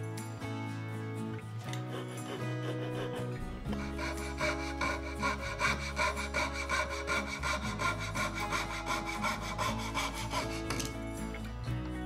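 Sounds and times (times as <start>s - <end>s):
fret saw rasping through wood: 1.7s - 11.4s.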